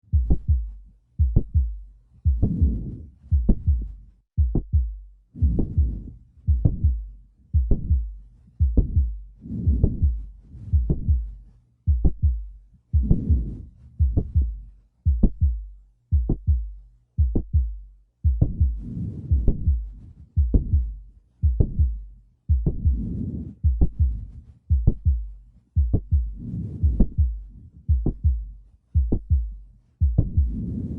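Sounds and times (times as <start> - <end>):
heartbeat: 0.0 - 30.9
heart valve click: 0.1 - 11.3, 11.9 - 23.0, 23.6 - 30.6
heart murmur: 0.1 - 30.9.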